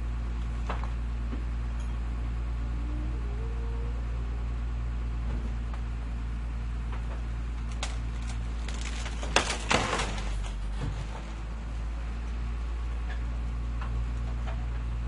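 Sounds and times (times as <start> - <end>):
garbage truck engine idling: 0.0 - 15.0.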